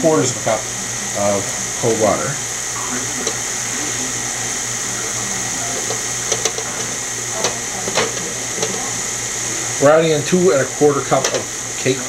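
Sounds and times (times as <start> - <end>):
stand mixer running: 0.0 - 12.0.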